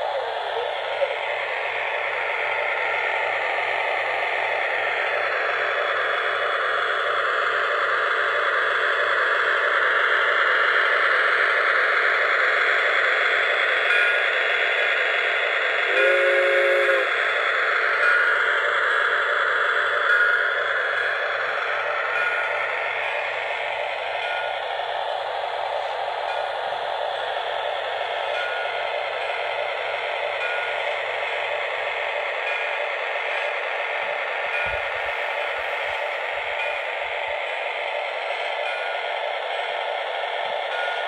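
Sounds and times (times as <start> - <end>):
model locomotive turbine hiss: 0.0 - 41.0.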